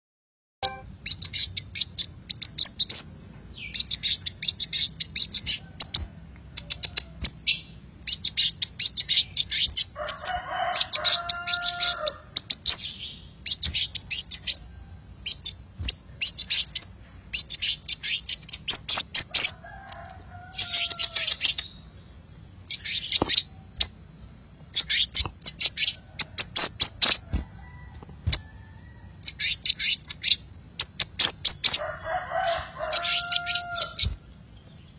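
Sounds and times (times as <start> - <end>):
high-pitched bird chirping: 0.6 - 21.9, 22.6 - 24.0, 24.6 - 27.4, 28.2 - 34.8.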